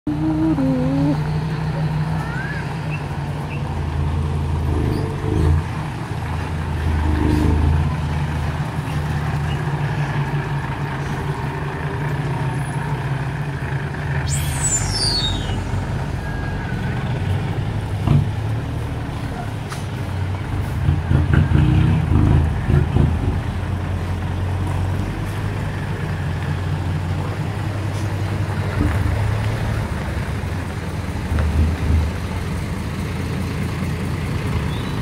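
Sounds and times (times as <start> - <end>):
truck diesel engine running: 0.1 - 21.3, 22.3 - 35.0.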